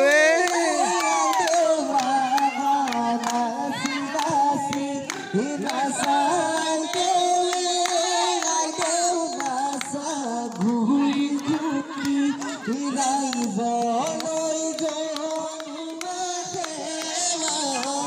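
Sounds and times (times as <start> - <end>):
children and adults singing: 0.0 - 18.0
people clapping: 0.0 - 18.0.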